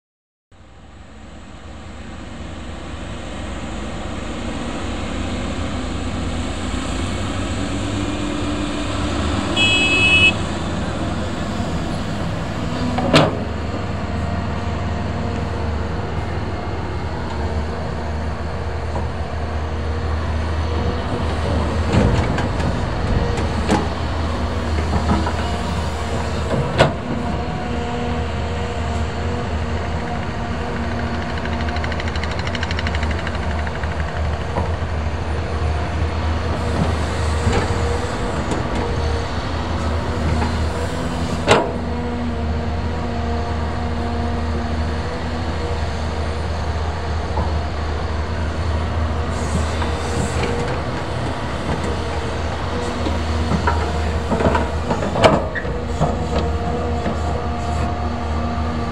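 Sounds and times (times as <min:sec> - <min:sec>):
excavator diesel engine rumbling: 0:00.6 - 0:58.9.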